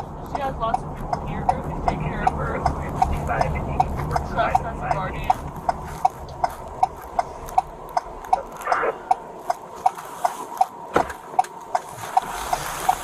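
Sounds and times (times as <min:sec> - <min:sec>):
turn signal indicator clicking: 0:00.0 - 0:13.0.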